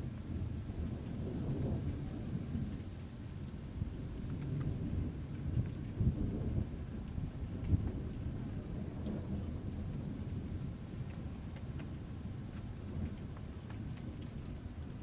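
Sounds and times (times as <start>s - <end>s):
steady rain falling: 0.0s - 15.0s
raindrop ticks: 0.1s - 1.8s, 3.4s - 15.0s.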